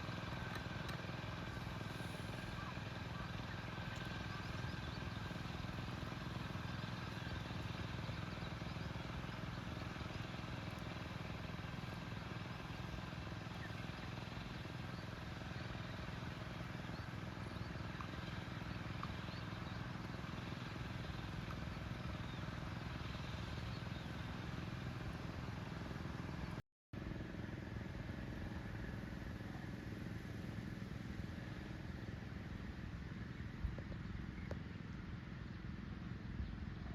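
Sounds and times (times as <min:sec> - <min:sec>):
small engine running: 0:00.0 - 0:36.9.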